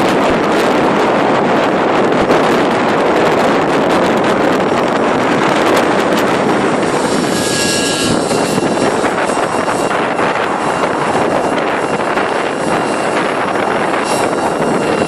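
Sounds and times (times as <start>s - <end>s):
model helicopter engine whine: 0.0s - 15.0s
wind buffeting microphone: 0.0s - 15.0s.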